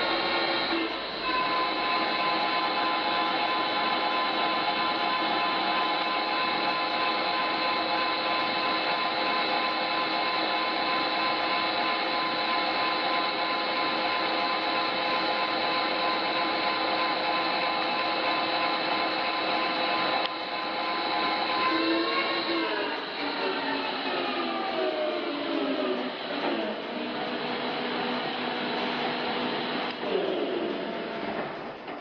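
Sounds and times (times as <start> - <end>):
lathe running: 0.0 - 32.0.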